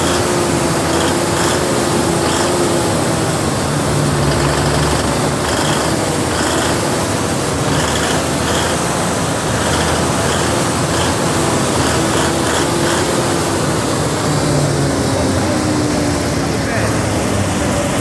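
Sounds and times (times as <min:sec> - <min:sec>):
diesel generator engine droning: 0:00.0 - 0:18.0.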